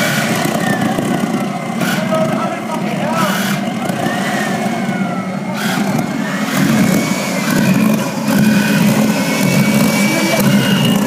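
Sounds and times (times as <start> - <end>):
jet engine rushing roar: 0.0 - 11.0
thin high whine: 0.0 - 11.0.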